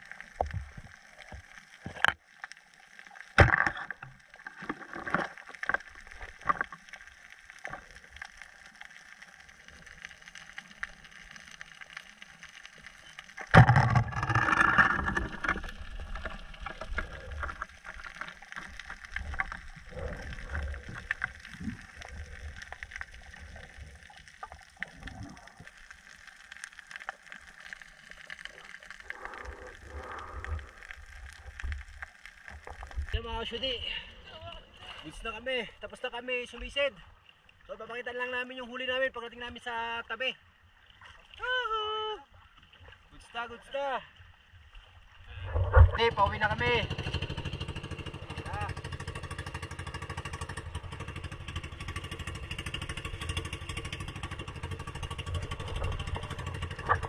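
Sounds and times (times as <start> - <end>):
rush of gurgling water: 0.0 - 37.0, 44.9 - 57.0
faint underwater clicking and crackling: 0.0 - 57.0.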